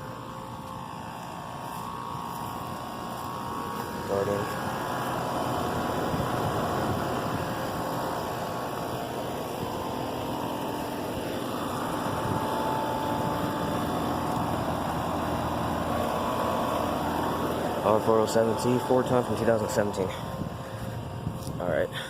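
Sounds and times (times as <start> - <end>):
air conditioner unit running: 0.0 - 22.0.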